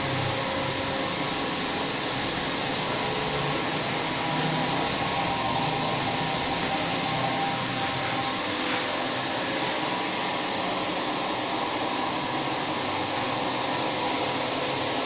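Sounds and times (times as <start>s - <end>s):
floor scrubber whirring: 0.0s - 15.0s.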